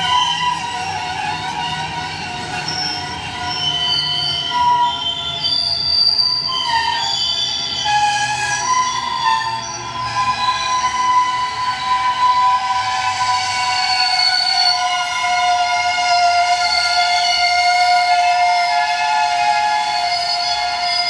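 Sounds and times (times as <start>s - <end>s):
low rumble of rolling train: 0.0s - 21.0s
train wheels squealing on rails: 0.0s - 21.0s.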